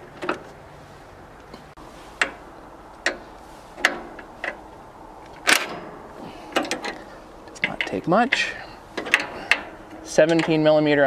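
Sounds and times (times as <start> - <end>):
metallic clicks and knocks: 1.4 - 10.8.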